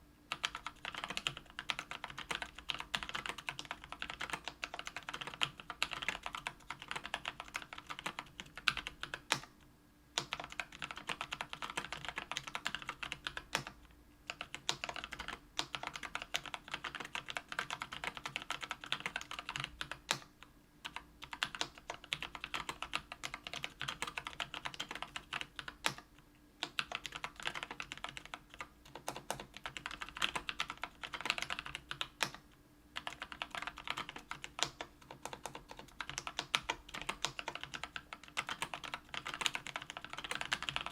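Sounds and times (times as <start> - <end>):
mechanical keyboard typing: 0.3 - 9.5, 10.2 - 32.4, 33.0 - 40.9.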